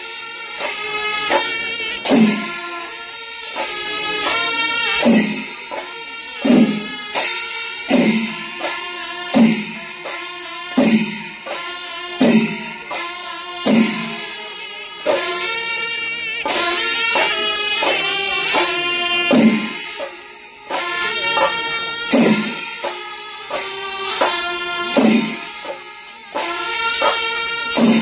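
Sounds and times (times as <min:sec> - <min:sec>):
cymbals: 0:00.0 - 0:28.0
drums playing rhythm: 0:00.0 - 0:28.0.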